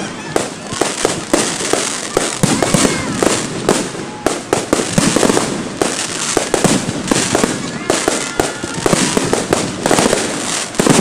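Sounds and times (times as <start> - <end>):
fireworks shells bursting: 0.0 - 11.0.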